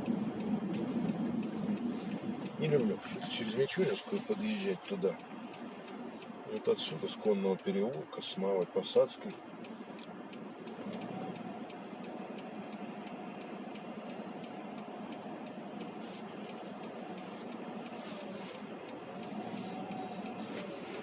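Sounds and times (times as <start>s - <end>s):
road and engine noise: 0.0s - 21.0s
turn signal ticking: 0.0s - 21.0s.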